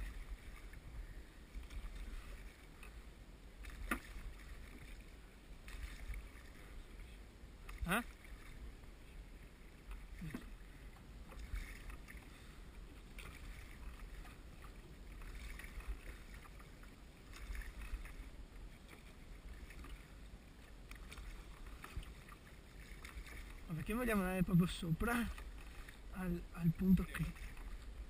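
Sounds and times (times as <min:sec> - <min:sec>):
low steady rumble: 0:00.0 - 0:28.0
oars splashing in water: 0:00.0 - 0:28.0.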